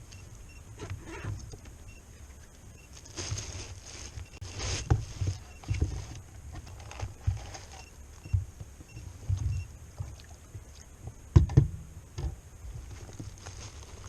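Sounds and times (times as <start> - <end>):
wind rumble on microphone: 2.7 - 14.0.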